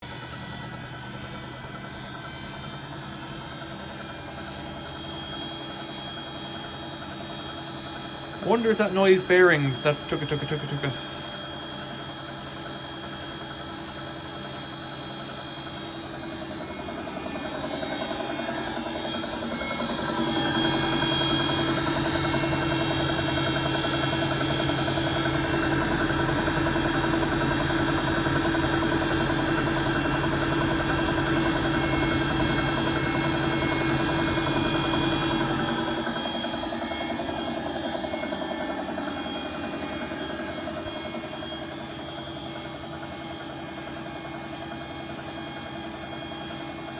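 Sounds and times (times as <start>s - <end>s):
washing machine running: 0.0s - 46.9s.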